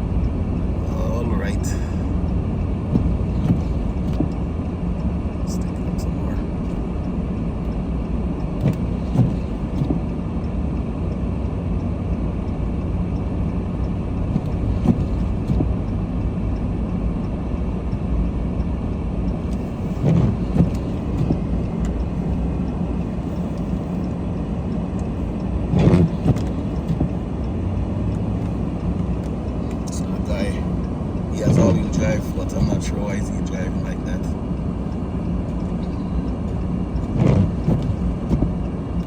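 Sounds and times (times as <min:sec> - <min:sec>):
car interior road noise: 0:00.0 - 0:39.0.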